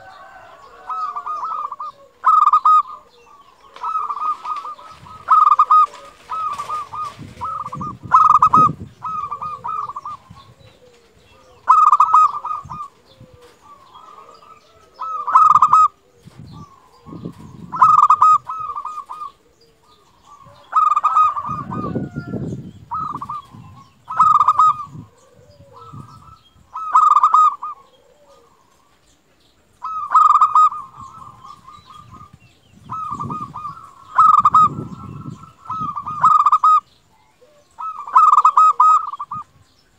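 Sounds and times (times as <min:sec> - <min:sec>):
dove staccato cooing: 0:00.0 - 0:39.9.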